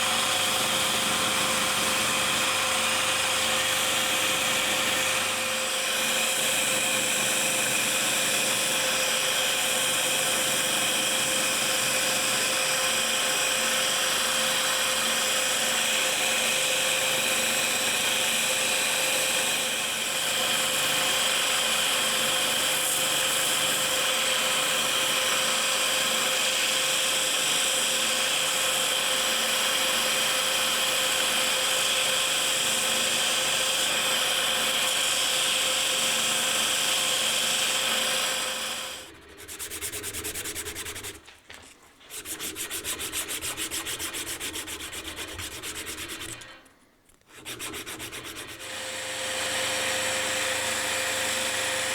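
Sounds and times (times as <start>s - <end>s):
power tool grinding: 0.0s - 41.1s, 42.0s - 46.7s, 47.3s - 51.9s.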